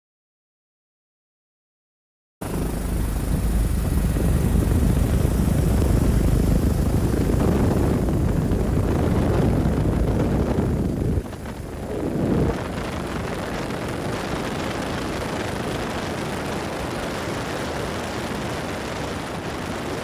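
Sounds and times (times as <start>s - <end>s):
faint high whine: 2.4s - 20.0s
helicopter rotor rumble: 2.4s - 20.0s.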